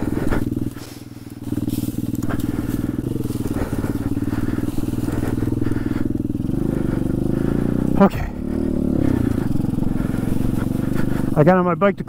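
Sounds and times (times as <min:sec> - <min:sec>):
motorbike engine running under load: 0:00.0 - 0:12.0.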